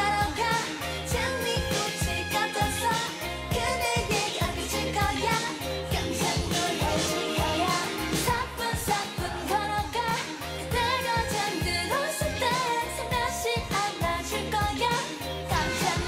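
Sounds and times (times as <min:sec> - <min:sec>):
female group singing: 0:00.0 - 0:16.0
pop dance song: 0:00.0 - 0:16.0.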